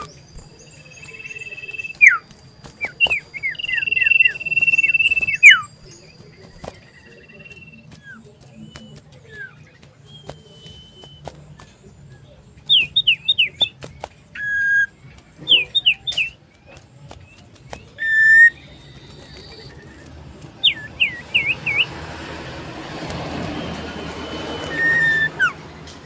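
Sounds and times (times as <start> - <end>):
bird singing whistled notes: 0.0 - 22.0, 23.2 - 26.0.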